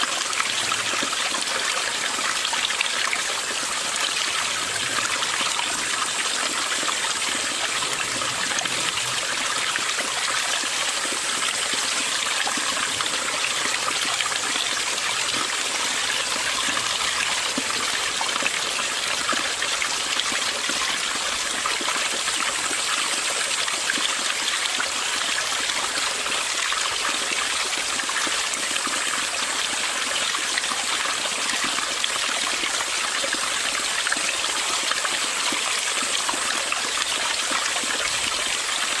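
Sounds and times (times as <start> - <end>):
stream flowing: 0.0 - 39.0.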